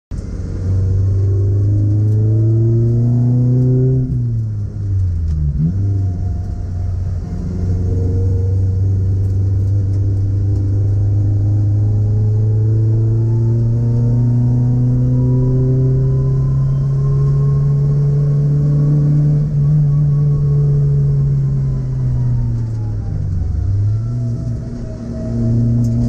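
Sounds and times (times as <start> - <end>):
car engine revving: 0.1 - 26.0.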